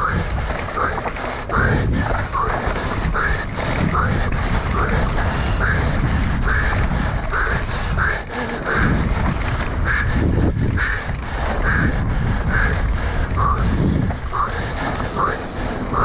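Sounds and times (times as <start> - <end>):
bike trail rumble: 0.0 - 16.0
rider breathing hard: 0.0 - 16.0
wind buffeting microphone: 0.0 - 16.0.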